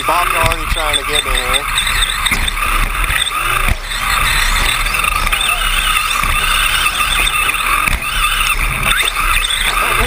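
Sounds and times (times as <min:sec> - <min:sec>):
rc truck motor whine: 0:00.0 - 0:10.0.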